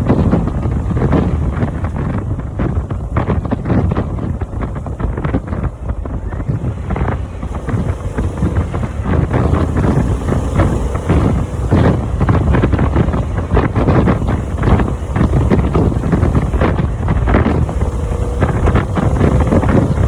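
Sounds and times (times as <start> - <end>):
motorcycle engine rumbling: 0.0 - 20.0
wind buffeting microphone: 0.0 - 20.0.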